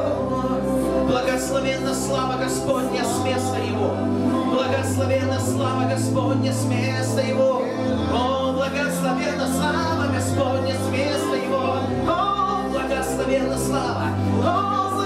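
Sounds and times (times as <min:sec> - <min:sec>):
electronic keyboard chords: 0:00.0 - 0:15.0
man singing: 0:00.0 - 0:15.0.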